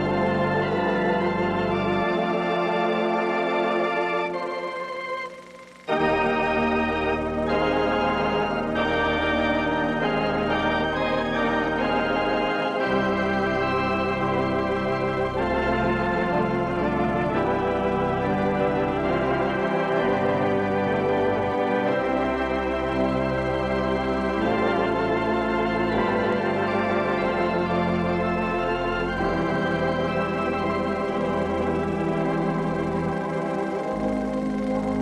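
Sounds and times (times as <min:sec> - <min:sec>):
sustained keyboard chords: 0:00.0 - 0:35.0.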